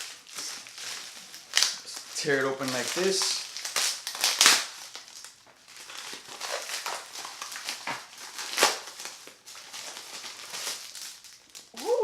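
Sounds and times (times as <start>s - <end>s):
package crinkling and tearing: 0.0s - 12.0s.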